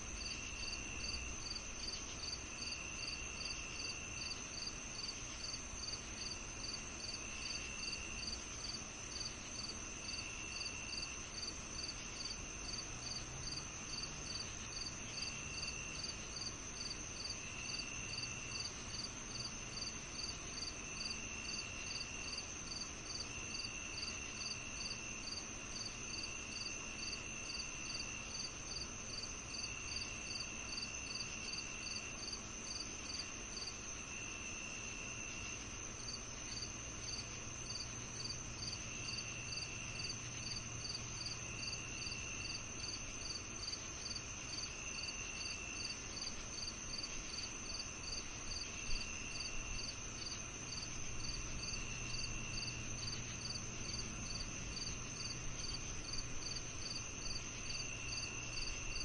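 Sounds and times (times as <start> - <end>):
crickets chirping: 0.0 - 59.0
lower insect trill: 0.0 - 59.0.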